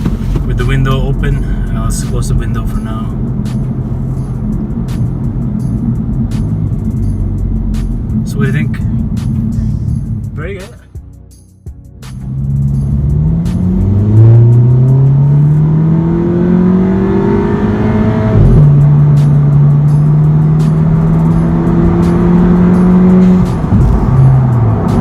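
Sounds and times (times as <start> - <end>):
car exhaust accelerating hard: 0.0 - 10.4, 12.0 - 25.0.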